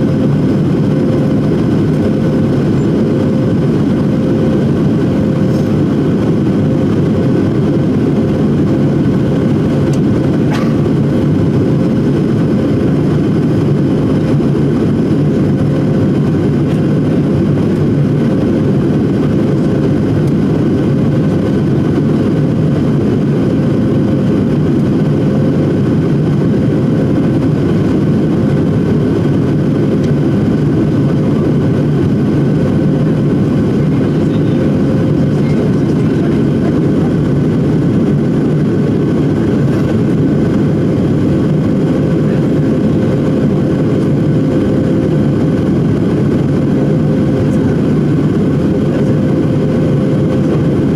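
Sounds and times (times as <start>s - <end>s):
airliner cabin engine drone: 0.0s - 50.9s.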